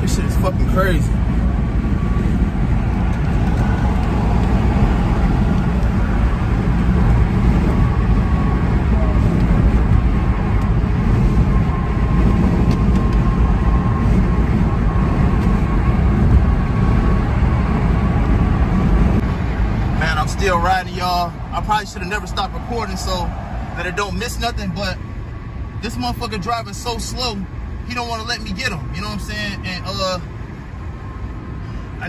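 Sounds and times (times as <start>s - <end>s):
car road and engine rumble: 0.0s - 32.0s.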